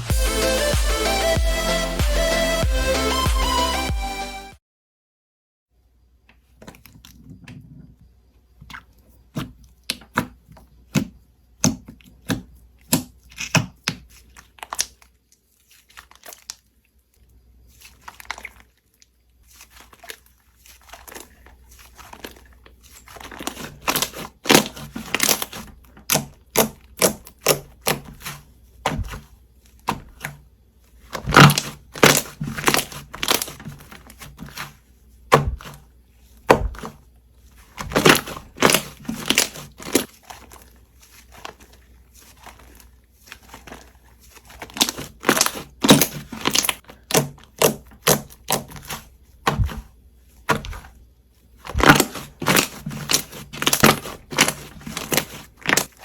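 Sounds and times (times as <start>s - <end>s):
slime squished by hand: 8.6s - 17.0s, 17.6s - 56.0s.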